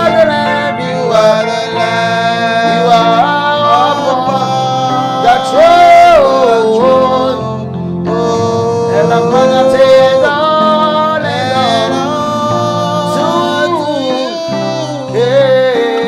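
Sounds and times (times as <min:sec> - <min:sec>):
person singing wavering melody: 0:00.0 - 0:16.0
sustained instrumental chords: 0:00.0 - 0:16.0.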